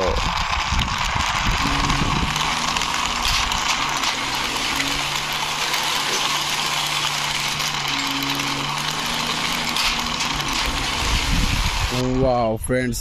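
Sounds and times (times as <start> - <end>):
toy excavator tracks rolling and scraping: 0.0 - 12.4.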